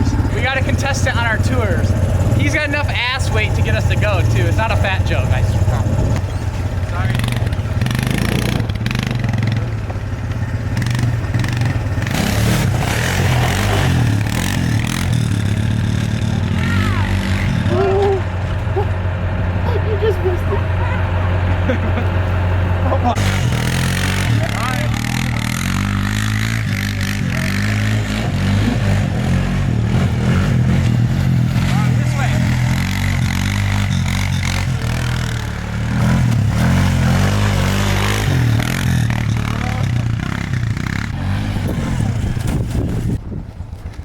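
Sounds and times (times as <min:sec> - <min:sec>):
go-kart engine revving: 0:00.0 - 0:44.0.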